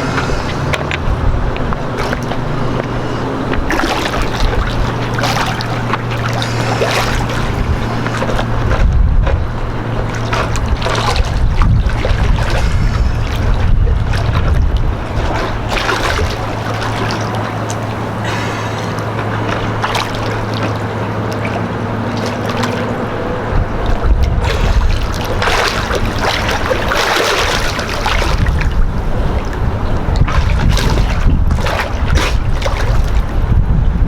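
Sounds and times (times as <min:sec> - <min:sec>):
steady low hum: 0:00.0 - 0:34.0
water splashing around boat hull: 0:00.0 - 0:34.0
wind buffeting microphone: 0:00.0 - 0:34.0.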